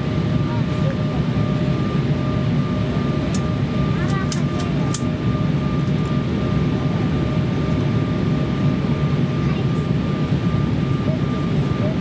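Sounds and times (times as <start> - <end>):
jet engine roar in cabin: 0.0 - 12.0.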